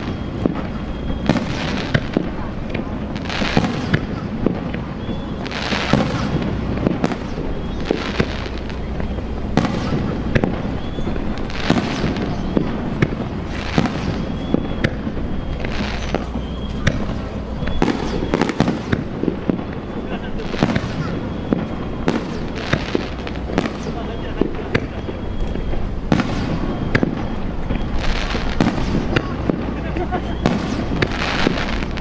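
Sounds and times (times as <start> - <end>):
firework shells bursting: 0.0 - 32.0
fireworks hissing and crackling: 0.0 - 32.0.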